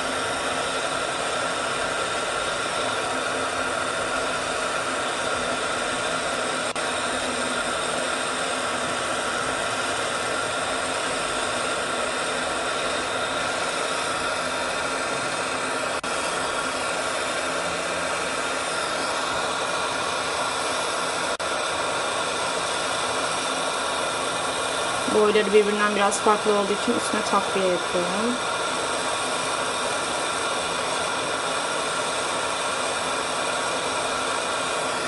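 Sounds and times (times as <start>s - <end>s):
gas torch hissing: 0.0s - 35.0s.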